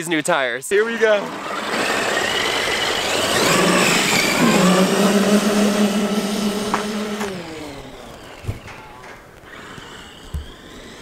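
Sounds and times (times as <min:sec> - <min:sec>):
electric motor whining: 0:01.2 - 0:11.0.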